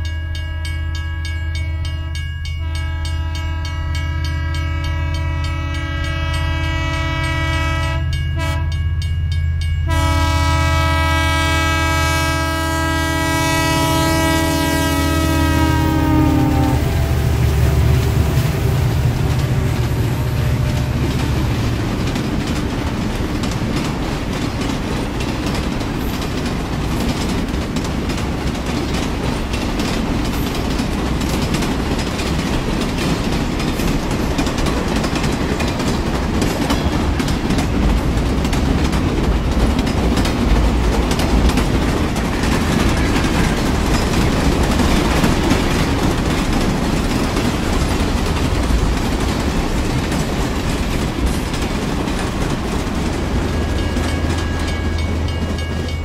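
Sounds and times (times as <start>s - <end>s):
train rumble: 0.0s - 56.0s
train wheels clicking on rails: 11.0s - 56.0s.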